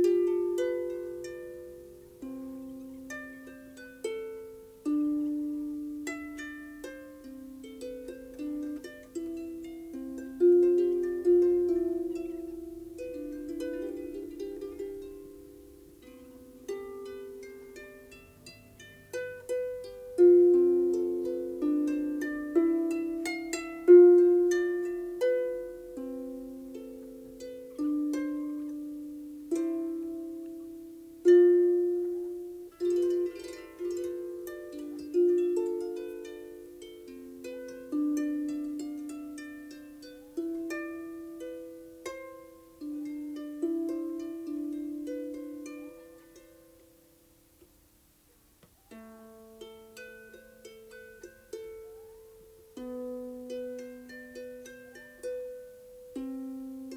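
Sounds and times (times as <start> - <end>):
harp plucked notes: 0.0 - 47.7, 48.7 - 56.9.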